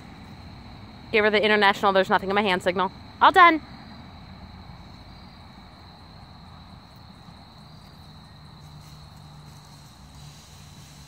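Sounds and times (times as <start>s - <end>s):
insect chorus chirring: 0.0s - 11.0s
low outdoor rumble: 0.0s - 11.0s.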